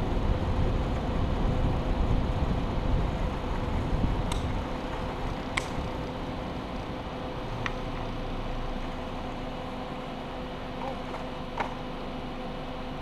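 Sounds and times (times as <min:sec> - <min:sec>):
faint constant hum: 0:00.0 - 0:13.0
road rumble on asphalt: 0:00.0 - 0:13.0.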